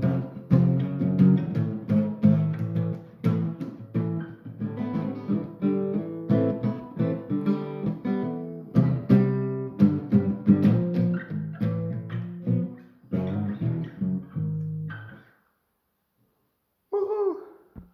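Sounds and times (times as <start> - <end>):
guitar playing notes and chords: 0.0 - 15.3.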